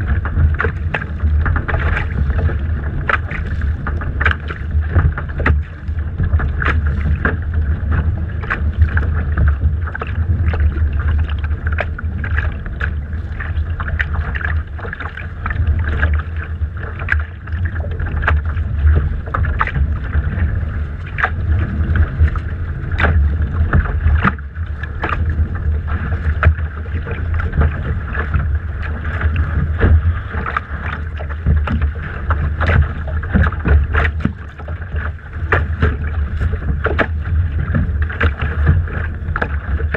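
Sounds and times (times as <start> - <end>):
water splashing against hull: 0.0 - 39.9
wind rumble on microphone: 0.0 - 39.9.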